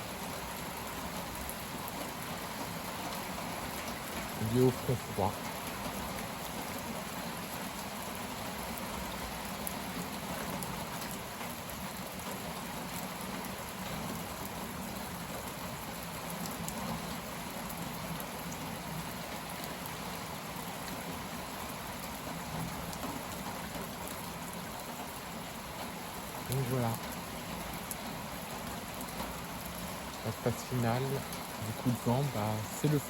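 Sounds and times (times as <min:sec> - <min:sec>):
torrential rain pouring: 0:00.0 - 0:33.0.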